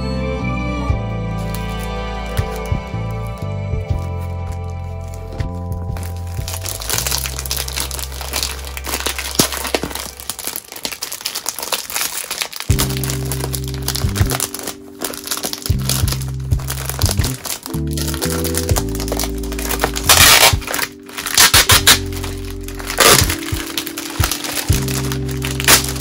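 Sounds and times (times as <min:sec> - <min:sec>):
background music with low notes: 0:00.0 - 0:10.9, 0:12.7 - 0:26.0
plastic packaging crinkling: 0:01.4 - 0:26.0.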